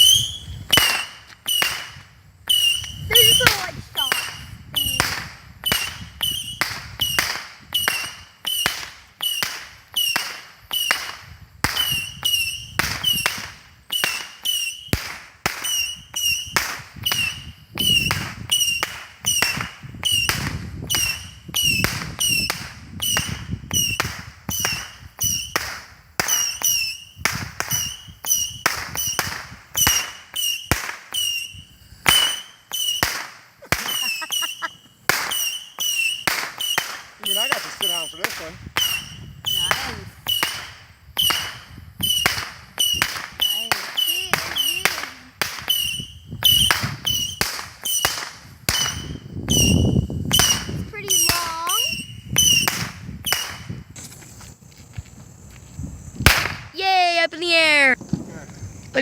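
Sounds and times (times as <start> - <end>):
firework cake cracking shots: 0.0 - 54.2, 56.2 - 58.4.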